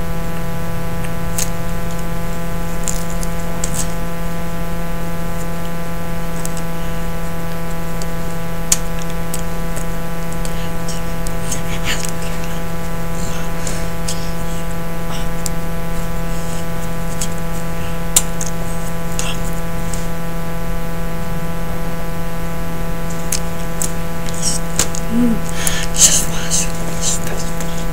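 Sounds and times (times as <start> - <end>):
electrical buzz: 0.0 - 27.9.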